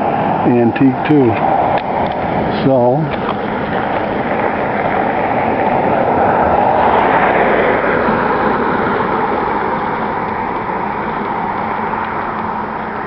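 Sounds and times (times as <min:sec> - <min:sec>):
rushing vehicle noise: 0:00.0 - 0:13.0.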